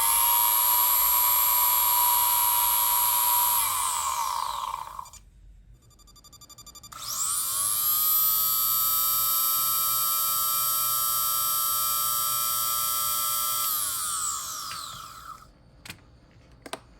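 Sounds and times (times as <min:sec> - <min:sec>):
cooling fan motor whine: 0:00.0 - 0:05.2, 0:07.0 - 0:15.9.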